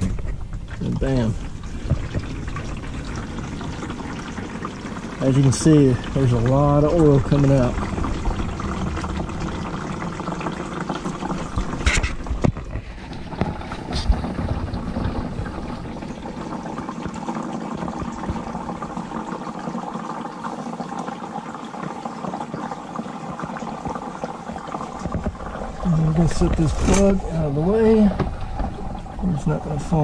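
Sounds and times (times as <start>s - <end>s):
oil pouring from drain hole: 0.0s - 30.0s.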